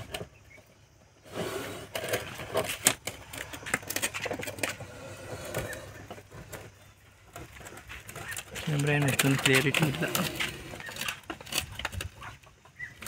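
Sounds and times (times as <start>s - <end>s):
plastic bottle crackling on concrete: 1.9s - 13.0s.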